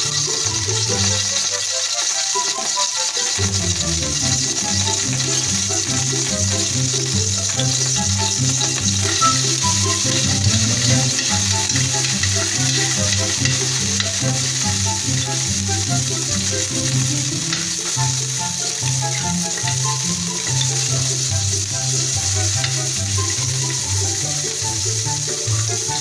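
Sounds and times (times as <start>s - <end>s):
background music with bass line: 0.0s - 1.7s, 3.3s - 26.0s
garlic sizzling in hot oil: 0.0s - 26.0s
spatula scraping a wok: 0.0s - 26.0s.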